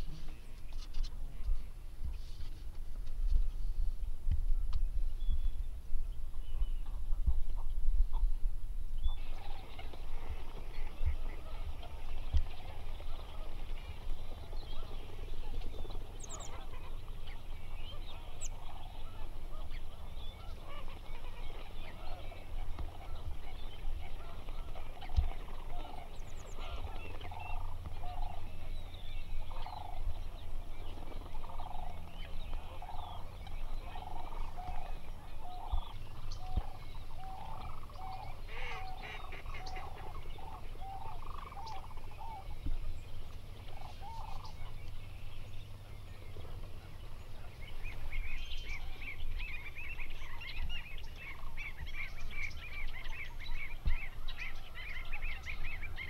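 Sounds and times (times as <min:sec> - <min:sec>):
waterbirds calling: 0:00.0 - 0:56.0.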